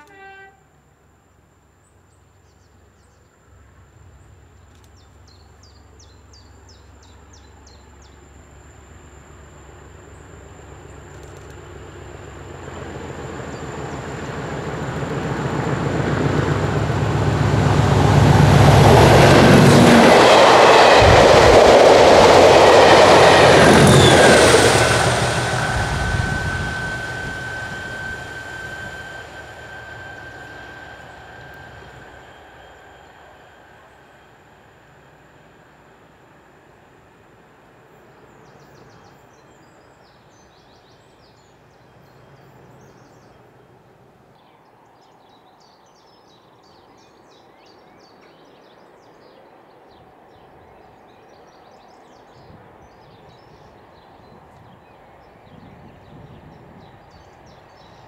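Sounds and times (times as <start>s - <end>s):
diesel locomotive engine drone: 0.0s - 58.0s
train passing: 0.0s - 58.0s.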